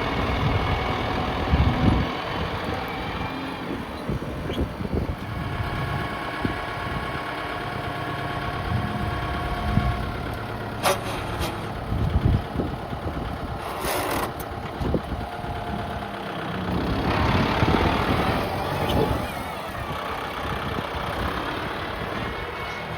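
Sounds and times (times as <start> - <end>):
diesel tractor engine running: 0.0 - 22.9.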